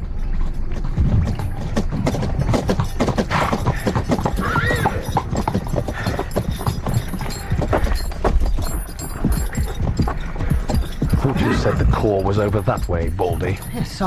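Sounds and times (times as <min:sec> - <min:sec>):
horse hooves clip-clopping: 0:00.0 - 0:14.0.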